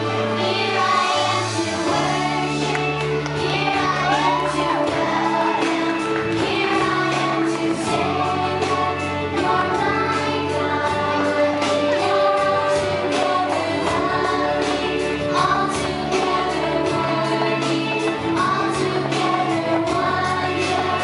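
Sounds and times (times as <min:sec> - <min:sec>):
group singing over a beat: 0:00.0 - 0:21.0.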